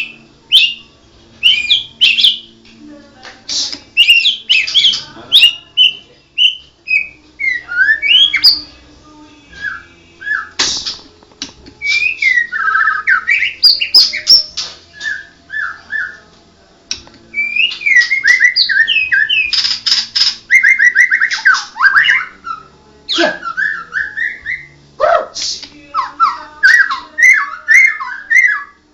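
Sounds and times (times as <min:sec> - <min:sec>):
bird singing varied song: 0:00.0 - 0:02.6, 0:03.5 - 0:10.6, 0:11.8 - 0:16.3, 0:16.9 - 0:24.8, 0:25.5 - 0:28.8.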